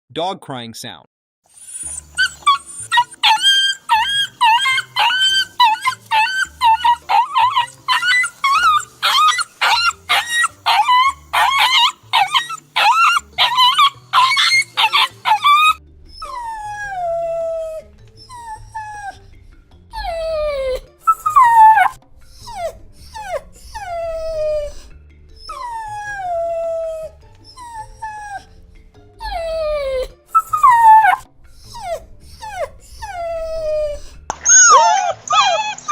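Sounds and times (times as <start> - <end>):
dog whining and crying: 1.5 - 19.2, 19.9 - 28.6, 29.2 - 35.9.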